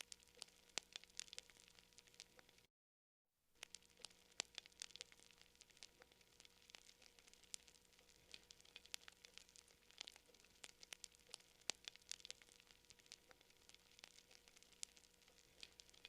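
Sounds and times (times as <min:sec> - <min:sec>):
campfire crackling: 0:00.0 - 0:02.7, 0:03.6 - 0:16.0.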